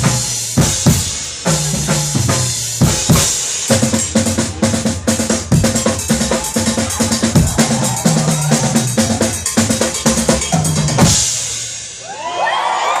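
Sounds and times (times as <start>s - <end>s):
fast drums and percussion: 0.0s - 12.3s.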